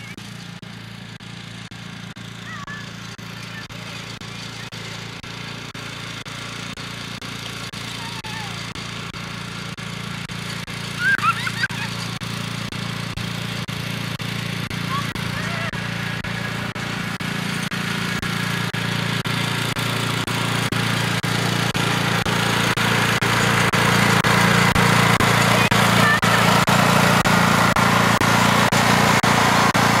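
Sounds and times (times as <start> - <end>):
riding lawn mower engine: 0.0 - 30.0.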